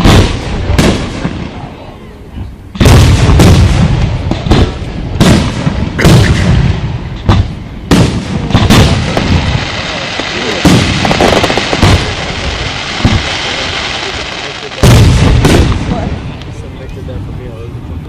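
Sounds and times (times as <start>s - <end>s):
fireworks booming: 0.0s - 17.9s.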